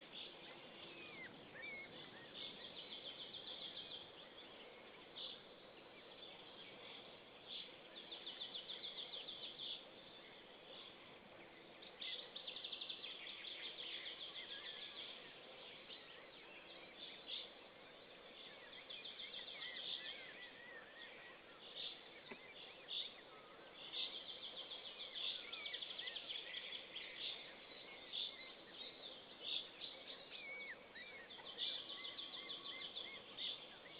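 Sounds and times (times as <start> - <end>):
bird trills and chirps: 0.0 - 11.0, 11.7 - 33.9
steady background hiss: 0.0 - 33.9.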